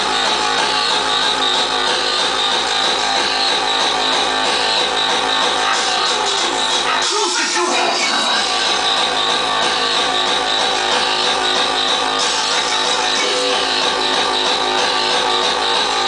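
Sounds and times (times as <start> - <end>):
pounding kick drum: 0.0 - 7.0, 8.3 - 16.0
sustained synth line: 0.0 - 16.0.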